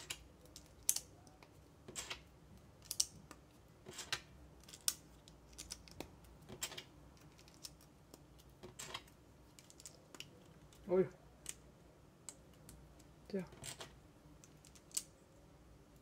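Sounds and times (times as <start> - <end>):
plastic pieces clicking: 0.0 - 10.8, 12.2 - 15.2.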